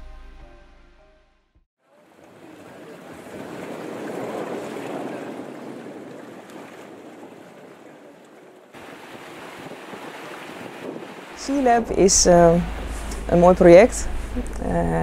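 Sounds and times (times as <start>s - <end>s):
sea water rushing: 1.9s - 15.0s.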